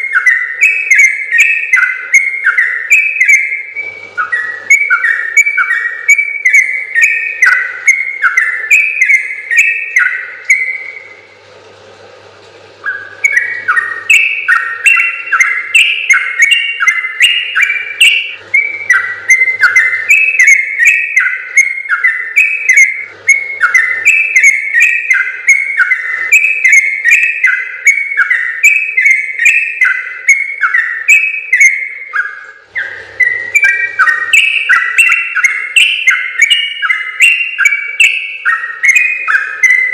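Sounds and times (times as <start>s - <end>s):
bulbul singing: 0.0s - 11.4s, 12.8s - 39.9s.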